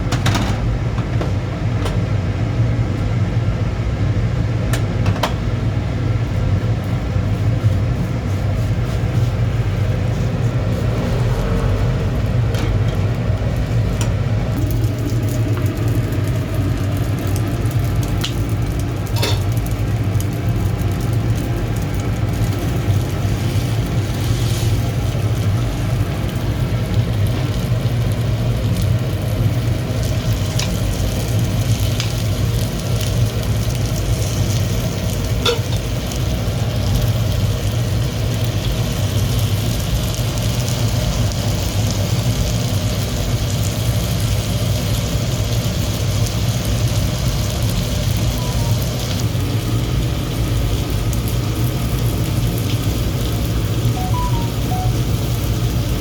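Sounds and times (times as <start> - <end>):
low machine hum: 0.0 - 56.0
meat sizzling over fire: 5.7 - 56.0.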